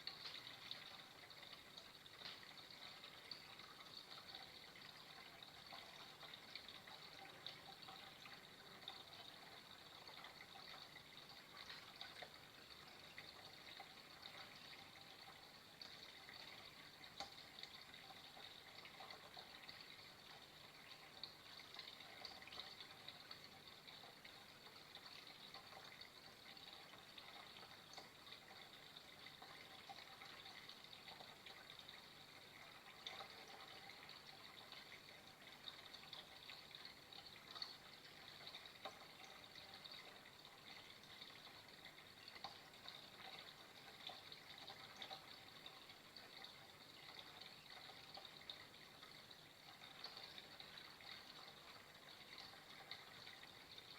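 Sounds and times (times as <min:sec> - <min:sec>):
trickle of running water: 0:00.0 - 0:53.9
water splashes and drips: 0:00.0 - 0:53.9.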